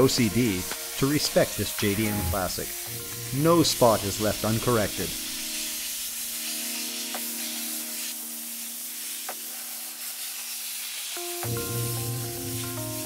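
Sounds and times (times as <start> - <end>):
background music: 0.0 - 10.2, 11.2 - 13.0
dry ice blasting hiss: 0.0 - 13.0.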